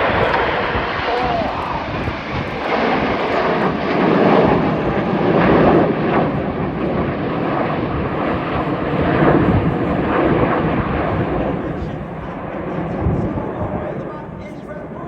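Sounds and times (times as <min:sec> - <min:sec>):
jets flying overhead: 0:00.0 - 0:15.0.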